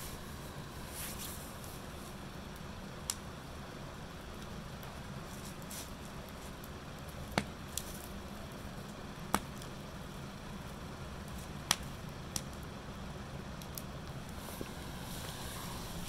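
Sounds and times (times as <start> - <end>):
burning logs popping: 0.0 - 16.0
fire low rumble: 0.0 - 16.0.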